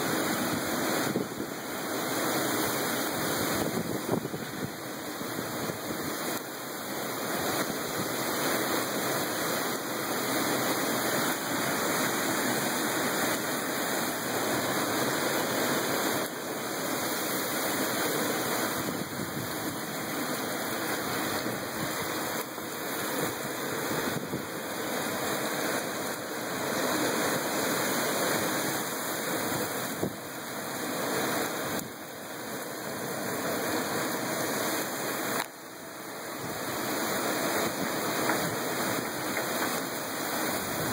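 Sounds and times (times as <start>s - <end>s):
heavy rain pouring: 0.0s - 40.9s
strong wind gusts: 0.0s - 40.9s.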